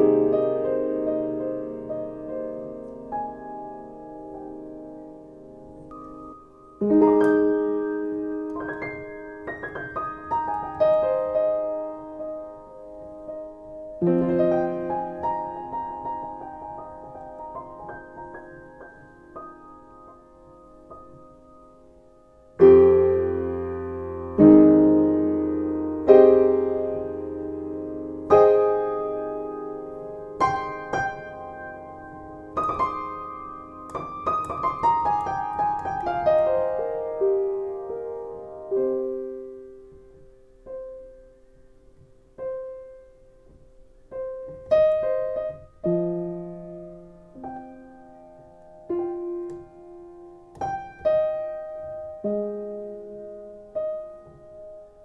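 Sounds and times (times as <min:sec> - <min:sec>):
solo piano music: 0:00.0 - 0:55.0.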